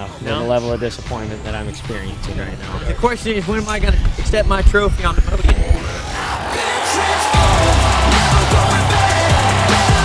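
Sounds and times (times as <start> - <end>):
loud electronic music: 0.0 - 10.0.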